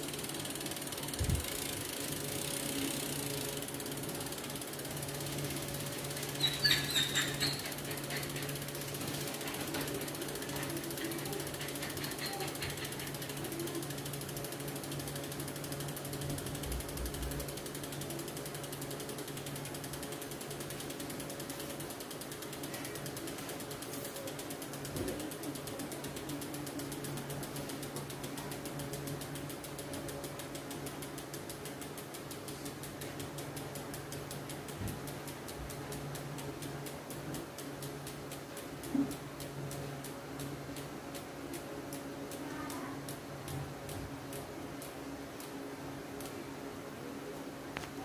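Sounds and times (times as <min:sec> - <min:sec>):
freehub clicking: 0:00.0 - 0:46.5.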